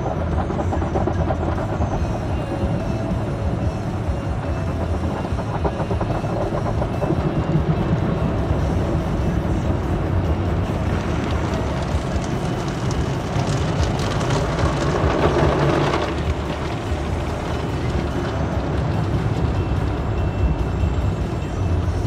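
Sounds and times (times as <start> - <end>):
low rumble of wash machinery: 0.0 - 22.0.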